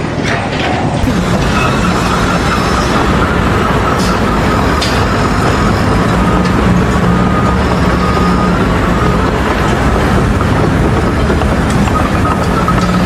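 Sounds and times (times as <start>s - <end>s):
loud machine hum: 0.0s - 13.0s.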